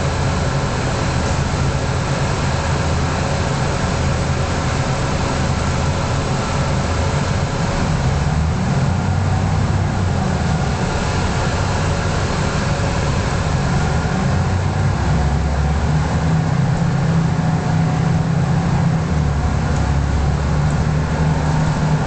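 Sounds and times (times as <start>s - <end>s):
bus diesel engine droning: 0.0s - 22.0s
road noise: 0.0s - 22.0s.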